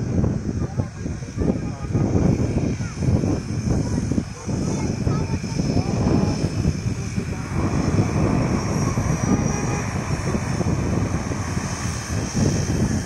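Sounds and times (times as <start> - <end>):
propeller airplane engine drone: 0.0 - 13.0.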